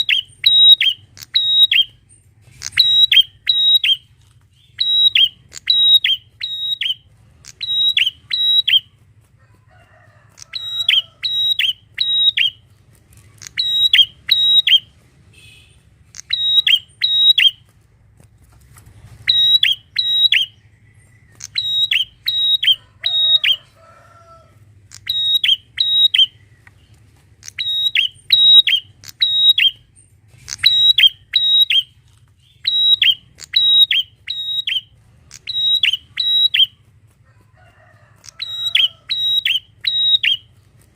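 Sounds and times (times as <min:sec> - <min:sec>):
bird chirping sharply: 0:00.0 - 0:08.9, 0:10.5 - 0:12.6, 0:13.4 - 0:17.6, 0:19.2 - 0:23.6, 0:24.9 - 0:36.8, 0:38.4 - 0:40.5.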